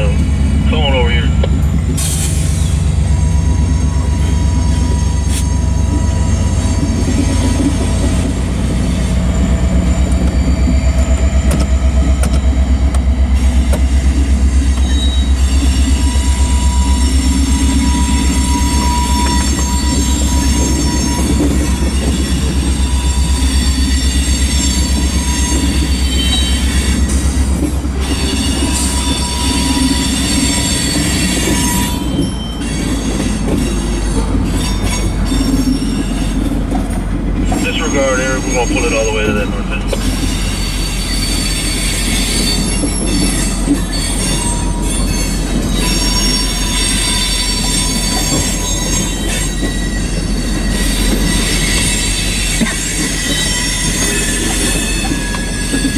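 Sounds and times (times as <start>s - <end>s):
train wheels rumbling on rails: 0.0s - 55.9s
wheels squealing on rail: 0.0s - 55.9s.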